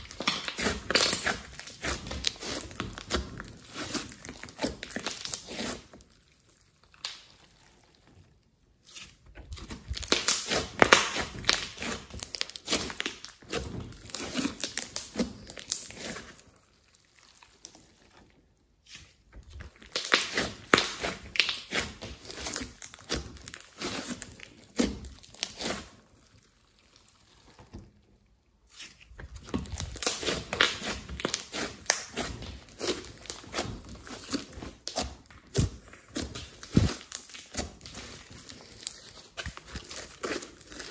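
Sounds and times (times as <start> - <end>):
slime squelching and popping: 0.0 - 40.9.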